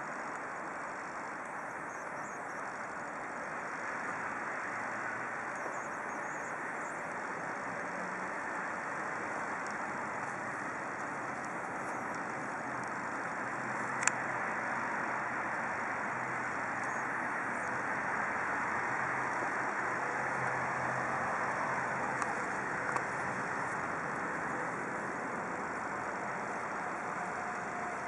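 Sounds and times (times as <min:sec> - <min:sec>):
city road traffic hum: 0:00.0 - 0:28.0.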